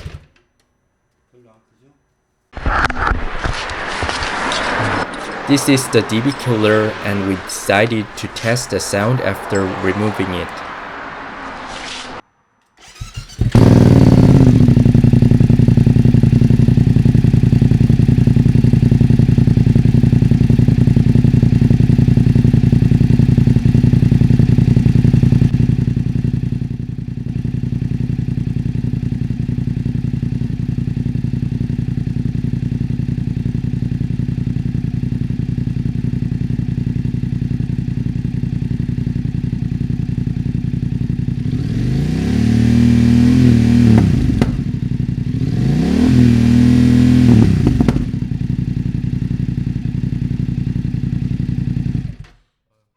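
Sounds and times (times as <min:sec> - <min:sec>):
motorcycle engine starting and idling: 0:04.9 - 0:52.4.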